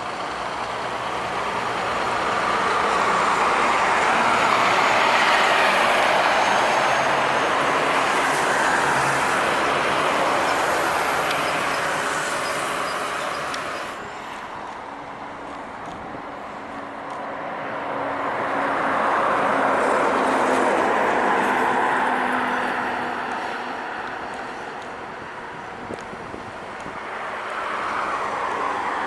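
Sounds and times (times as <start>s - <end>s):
trucks passing on highway: 0.0s - 29.0s.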